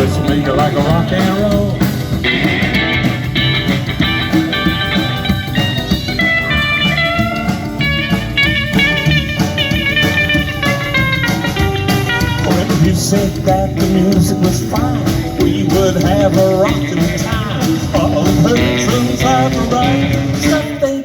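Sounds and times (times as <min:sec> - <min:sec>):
bass guitar: 0:00.0 - 0:21.0
drums: 0:00.0 - 0:21.0
lead guitar fast melodic line: 0:00.0 - 0:21.0.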